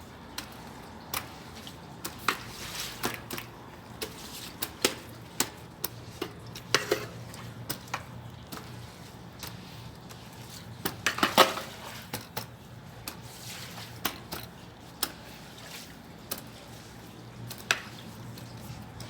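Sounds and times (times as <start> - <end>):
faint water noise: 0.0 - 19.0.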